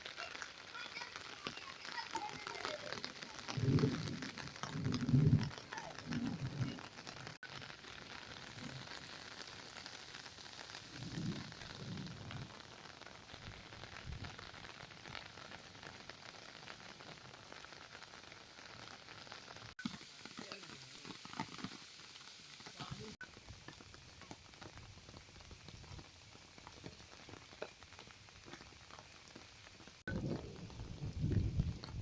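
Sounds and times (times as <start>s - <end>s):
heavy rain hissing: 0.0s - 32.0s.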